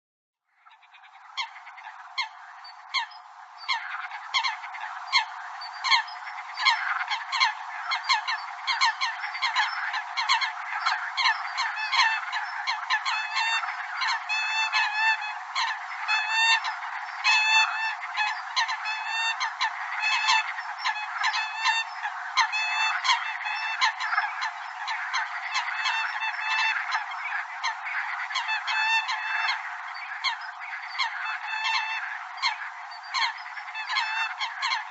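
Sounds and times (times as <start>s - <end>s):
flock of coots honking: 0.6s - 34.9s.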